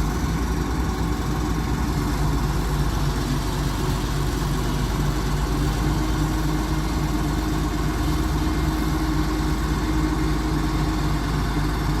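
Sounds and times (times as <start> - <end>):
crane diesel engine idling: 0.0 - 12.0.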